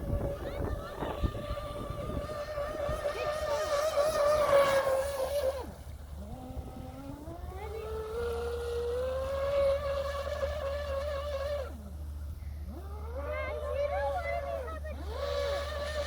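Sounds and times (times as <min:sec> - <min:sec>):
rc boat motor whining: 0:00.0 - 0:16.0.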